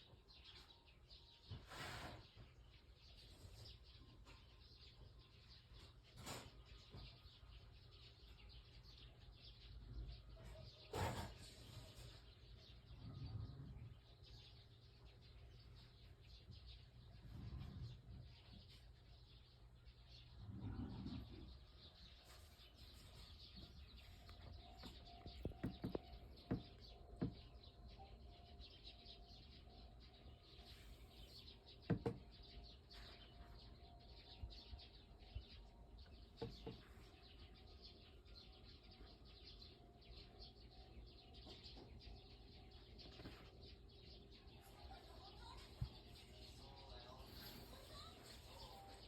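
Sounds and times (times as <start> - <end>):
faint bird chirps: 0.0 - 49.0.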